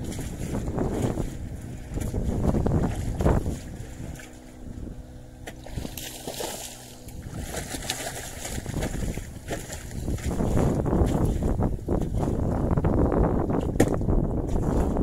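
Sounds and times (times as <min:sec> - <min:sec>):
water lapping against boat: 0:00.0 - 0:15.0
wind: 0:00.0 - 0:15.0.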